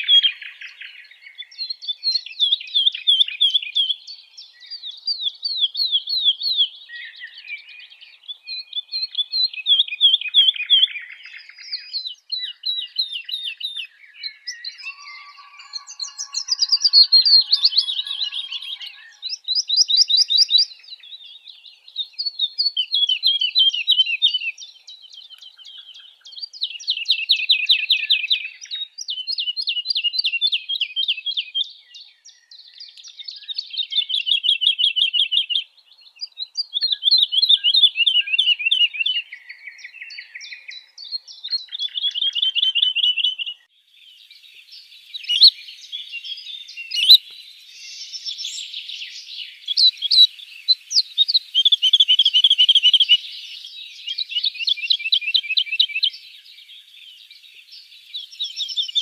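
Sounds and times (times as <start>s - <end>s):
woodlark singing: 0.0s - 59.0s.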